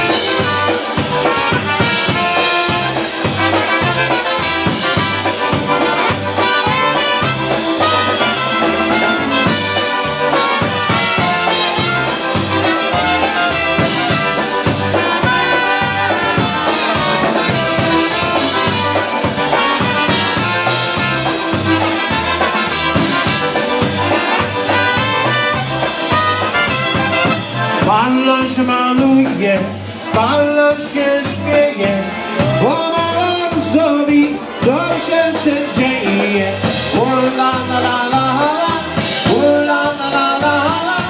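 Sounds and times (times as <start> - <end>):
concertina: 0.0 - 41.0
drums: 0.0 - 41.0
electric bass: 0.0 - 41.0
piano accordion: 0.0 - 41.0
polka band playing: 0.0 - 41.0.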